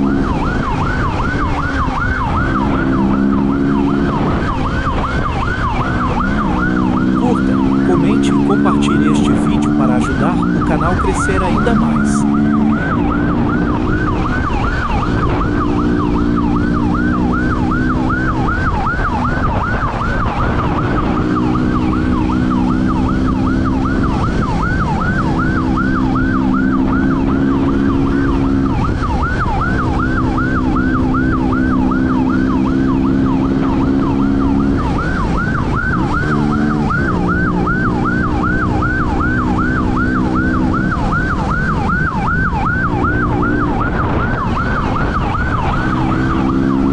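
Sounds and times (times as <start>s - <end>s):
police siren yelping: 0.0s - 46.9s
vehicle engine shifting gears: 0.0s - 46.9s.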